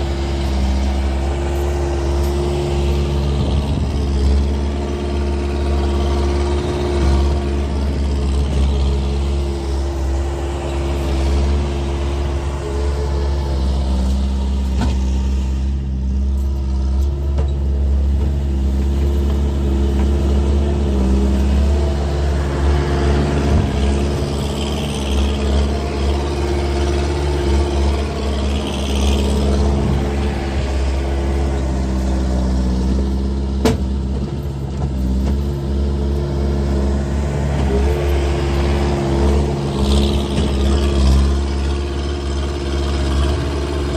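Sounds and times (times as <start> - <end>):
skid steer engine running: 0.0 - 43.9.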